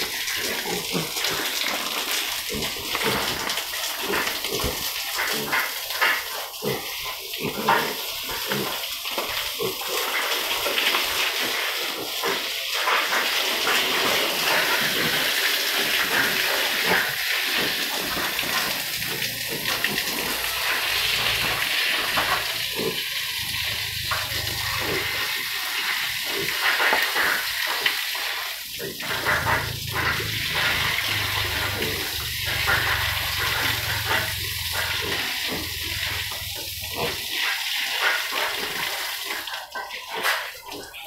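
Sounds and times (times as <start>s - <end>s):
water splashing on concrete: 0.0s - 41.0s.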